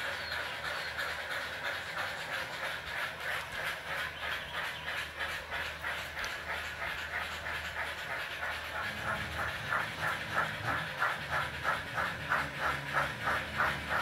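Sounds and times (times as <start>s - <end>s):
model steam locomotive chuffs: 0.0s - 14.0s
steady low hum: 0.0s - 14.0s.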